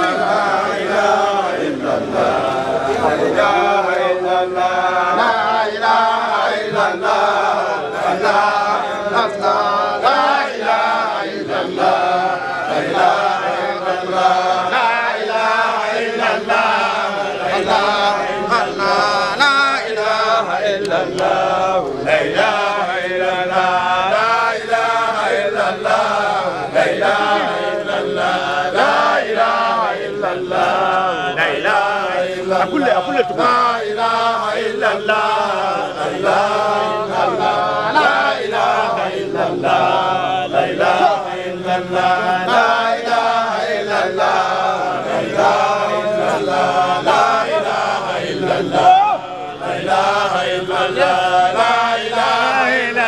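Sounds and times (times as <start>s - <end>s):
group chanting devotional song: 0.0s - 53.0s.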